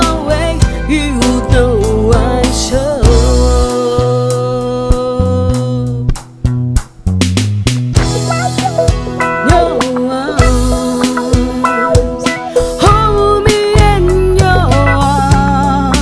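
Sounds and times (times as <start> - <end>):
bass and drum hits: 0.0 - 16.0
live band playing pop ballad: 0.0 - 16.0.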